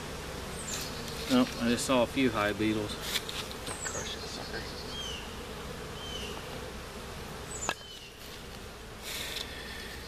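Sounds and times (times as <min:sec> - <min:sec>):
honeybees humming: 0:00.0 - 0:10.0.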